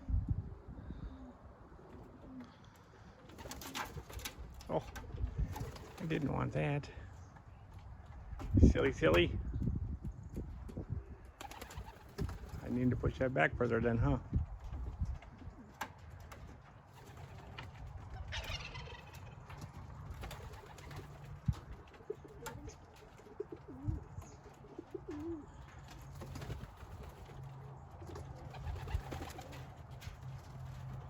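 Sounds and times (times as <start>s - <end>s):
pigeons cooing: 0.0s - 7.1s, 10.8s - 12.6s, 14.7s - 31.0s.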